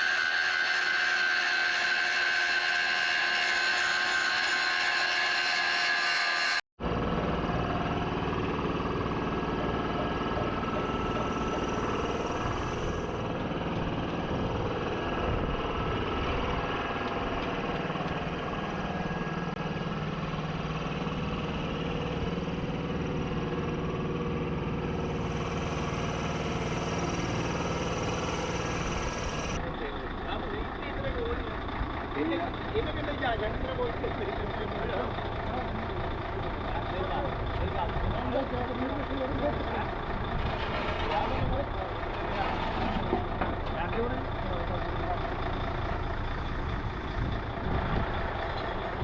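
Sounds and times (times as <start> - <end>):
engine idling: 6.8 - 49.0.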